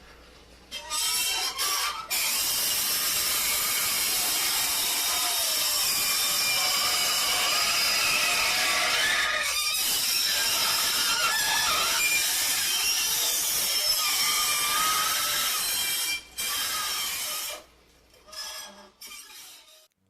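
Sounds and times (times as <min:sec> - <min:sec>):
metallic squeals and screeches: 0:00.7 - 0:02.8, 0:04.9 - 0:17.6, 0:18.2 - 0:19.9.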